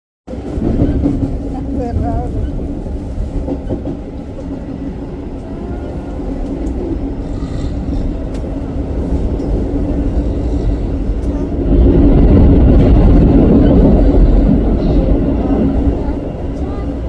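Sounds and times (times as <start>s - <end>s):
subway train rumbling: 0.3s - 17.0s.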